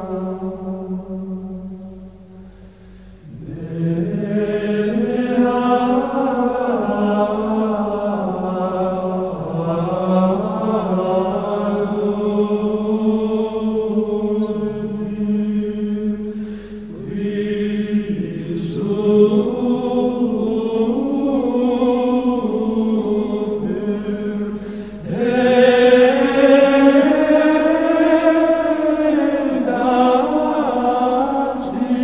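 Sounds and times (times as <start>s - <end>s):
choir chanting: 0.0s - 1.6s, 3.3s - 32.0s.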